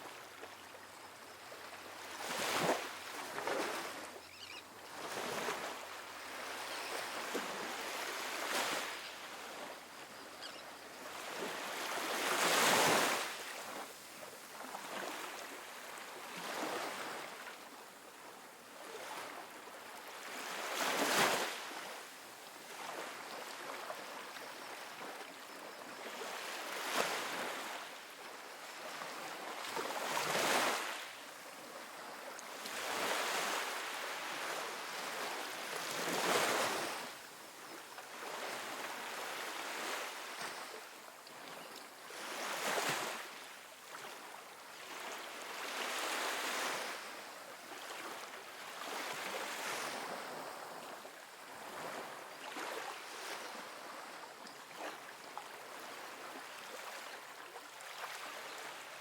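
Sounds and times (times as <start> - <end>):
ocean waves breaking on beach: 4.9 - 10.2, 10.8 - 17.8, 18.8 - 37.4, 38.0 - 59.0.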